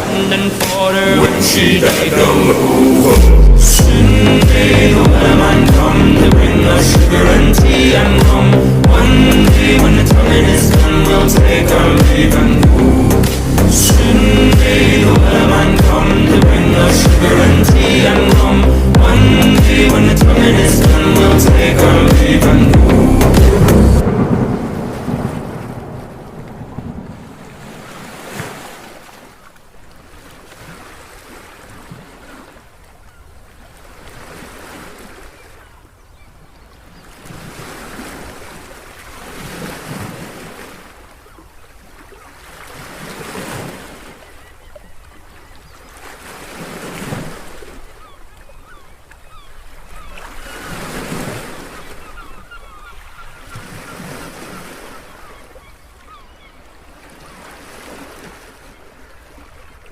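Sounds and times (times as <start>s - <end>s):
sea waves washing: 0.0s - 35.9s, 36.8s - 59.9s
wind: 0.0s - 59.9s.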